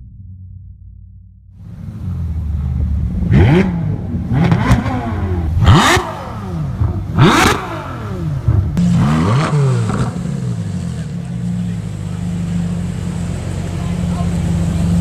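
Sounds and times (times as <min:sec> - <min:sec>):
low hum: 0:00.0 - 0:15.0
car engine revving: 0:01.6 - 0:15.0.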